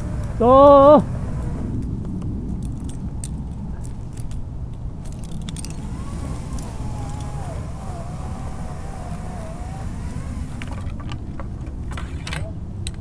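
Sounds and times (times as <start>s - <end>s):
metal climbing hardware clinking: 2.5s - 13.0s.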